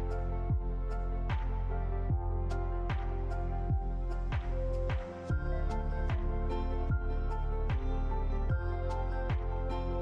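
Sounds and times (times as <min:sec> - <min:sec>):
deep kick drum beat: 0:00.0 - 0:09.8.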